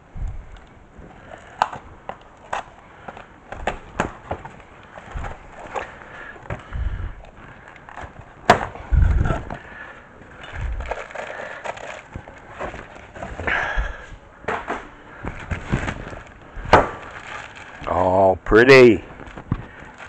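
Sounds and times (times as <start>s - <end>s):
handling thumps: 0.3s - 17.8s, 19.0s - 20.0s
cardboard and plastic bag rustling: 0.5s - 20.0s.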